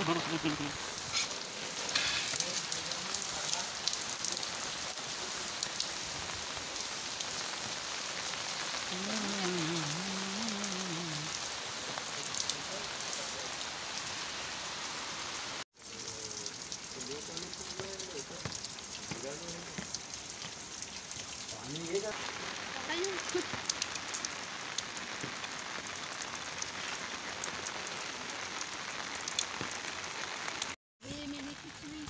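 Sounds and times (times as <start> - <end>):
rain falling on grass: 0.0 - 32.0.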